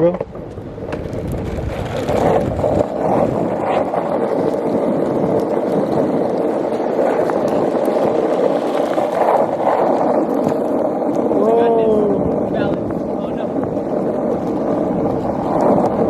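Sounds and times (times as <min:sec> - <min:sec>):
skateboard clicking over cracks: 0:00.0 - 0:16.0
skateboard wheels rolling on pavement: 0:00.0 - 0:16.0.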